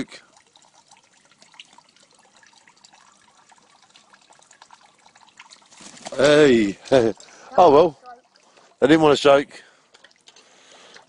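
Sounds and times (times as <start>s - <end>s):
water trickling and dripping: 0.0s - 11.0s.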